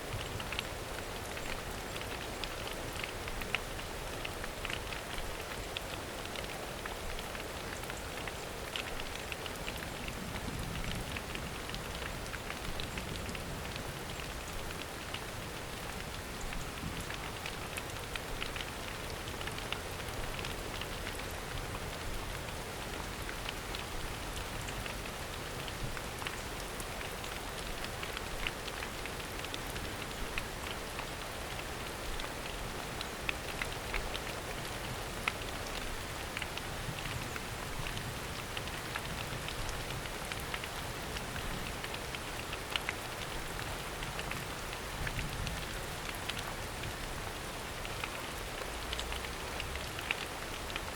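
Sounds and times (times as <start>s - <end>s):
rain falling in forest: 0.0s - 50.9s
raindrops ticking: 0.0s - 50.9s.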